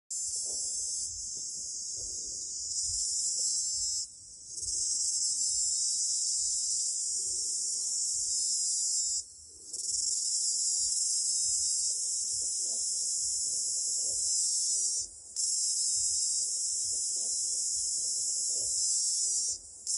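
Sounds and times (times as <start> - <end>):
cicadas buzzing: 0.1 - 19.9.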